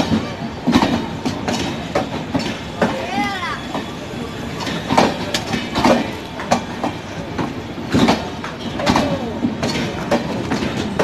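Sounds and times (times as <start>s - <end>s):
train wheels rumbling on rail: 0.0s - 11.0s
wheels clacking over rail joints: 0.0s - 11.0s.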